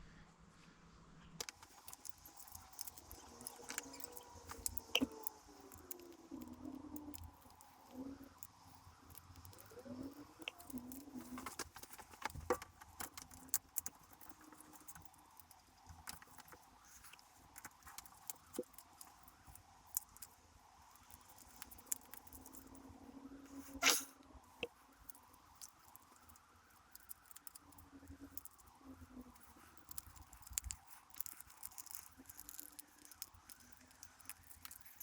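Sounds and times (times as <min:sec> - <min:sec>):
small parts and tools clicking: 0:01.4 - 0:35.0.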